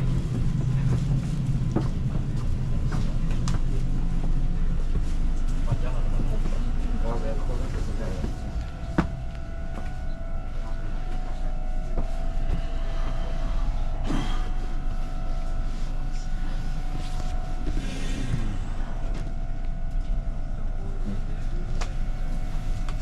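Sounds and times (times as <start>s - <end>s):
steady whining tones: 0.0s - 23.0s
train rumbling on rails: 0.0s - 23.0s.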